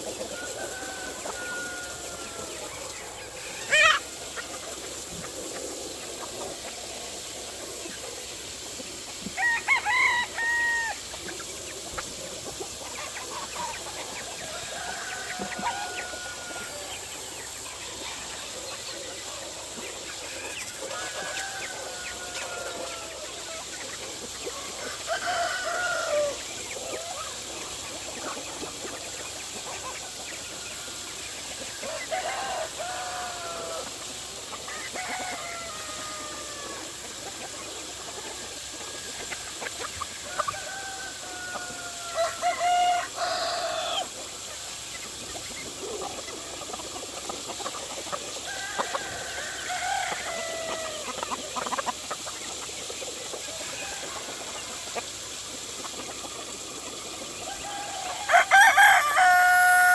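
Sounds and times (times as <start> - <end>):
roosters crowing: 0.0 - 6.0, 9.2 - 11.5, 12.6 - 44.5, 48.1 - 52.1, 53.3 - 55.2, 56.2 - 59.9
chickens calling: 0.0 - 59.9.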